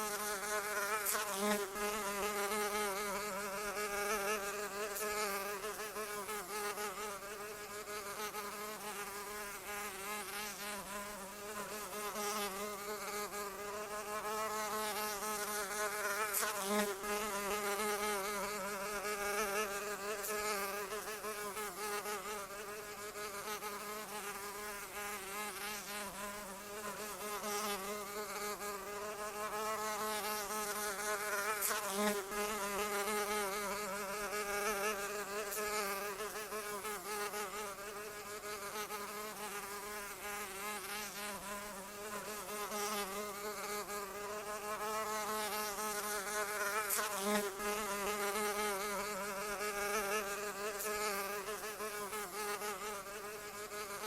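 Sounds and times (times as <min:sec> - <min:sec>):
insect wings buzzing: 0:00.0 - 0:54.0.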